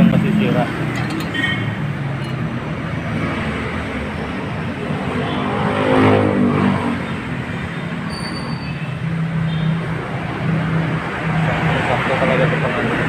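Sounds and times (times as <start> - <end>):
steady traffic noise: 0.0 - 13.0.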